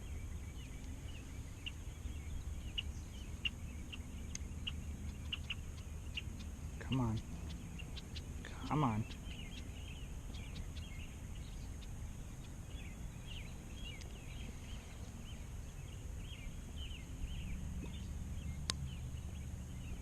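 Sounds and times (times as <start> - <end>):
small birds chirping: 0.0 - 20.0
steady low rumble: 0.0 - 20.0.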